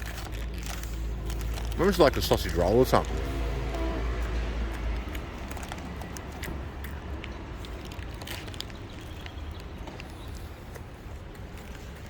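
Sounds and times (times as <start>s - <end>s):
steady low street rumble: 0.0s - 12.0s.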